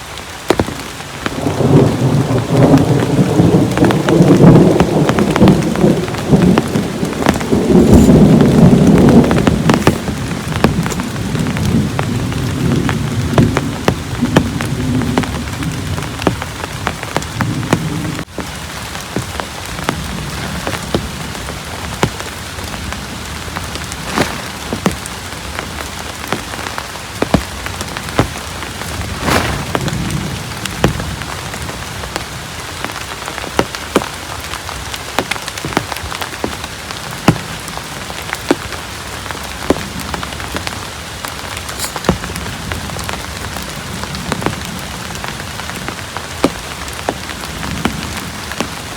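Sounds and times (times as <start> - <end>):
heavy rain falling: 0.0 - 48.9
large raindrops tapping: 0.0 - 48.9.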